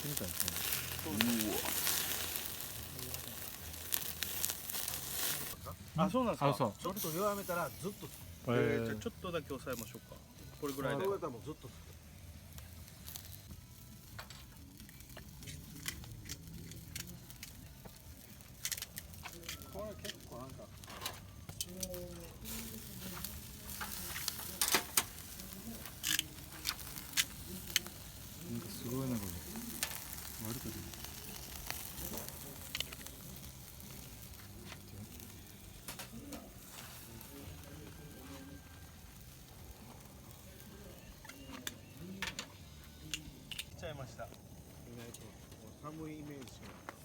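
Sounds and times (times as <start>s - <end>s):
meat sizzling on a grill: 0.0s - 46.6s
fire crackling and popping: 0.0s - 47.0s.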